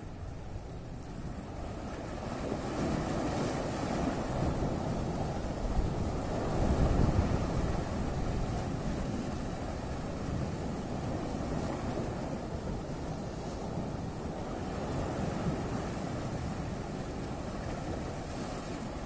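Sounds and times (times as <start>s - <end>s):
sea waves washing against rocks: 0.0s - 19.0s
wind buffeting microphone: 0.0s - 19.0s.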